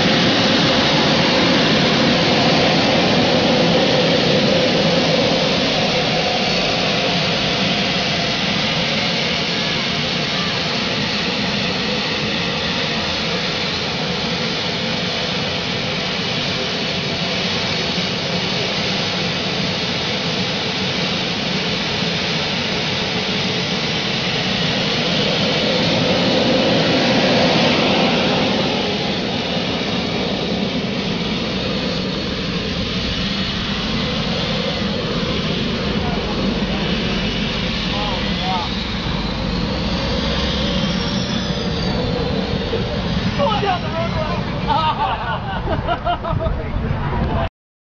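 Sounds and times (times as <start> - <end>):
gas turbine running: 0.0 - 46.4.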